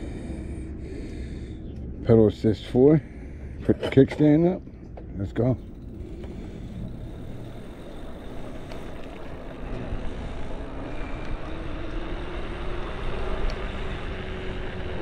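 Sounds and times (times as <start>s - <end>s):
faint steady hum: 0.0s - 15.0s
road noise: 0.0s - 15.0s.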